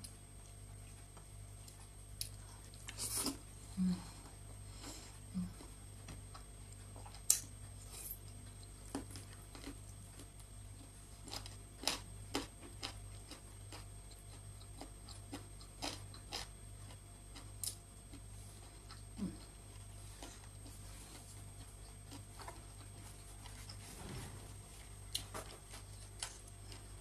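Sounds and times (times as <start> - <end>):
person chewing food: 0.0 - 23.9, 24.7 - 27.0
steady low hum: 0.0 - 27.0.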